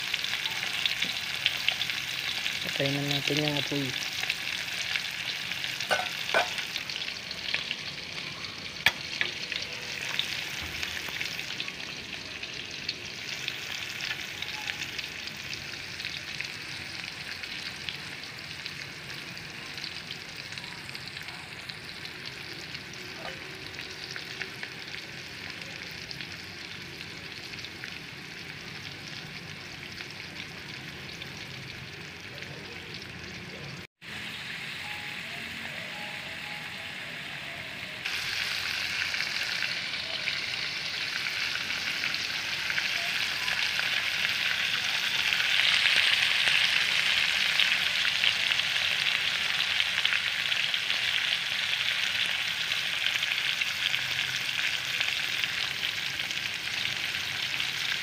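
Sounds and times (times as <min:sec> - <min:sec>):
liver sizzling in hot oil: 0:00.0 - 0:58.0.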